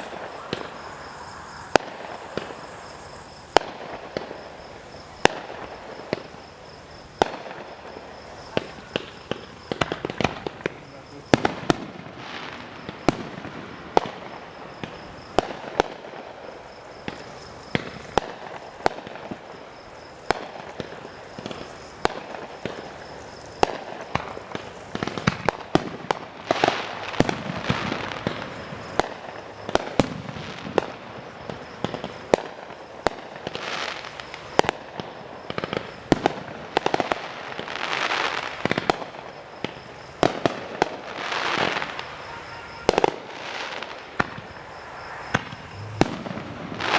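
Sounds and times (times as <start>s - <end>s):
fireworks exploding: 0.0s - 46.9s.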